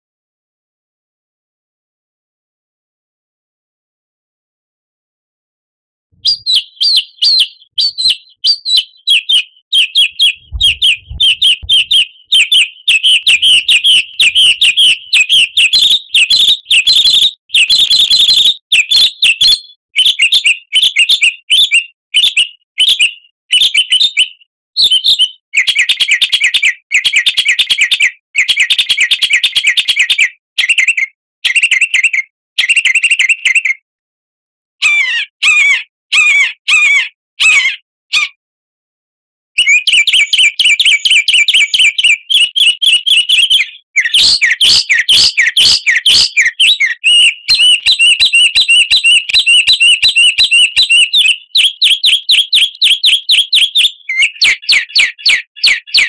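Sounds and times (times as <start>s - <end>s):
songbird chirping and trilling: 6.2s - 33.8s, 34.8s - 38.3s, 39.6s - 56.0s.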